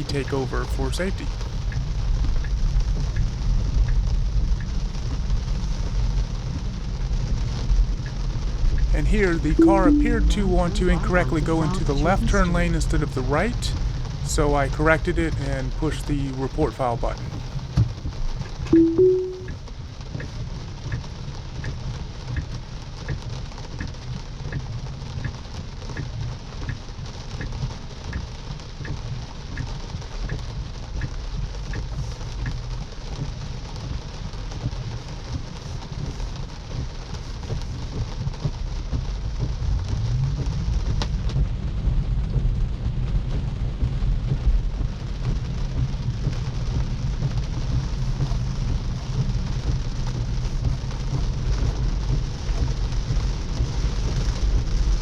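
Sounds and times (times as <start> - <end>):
rain on a car: 0.0 - 55.0.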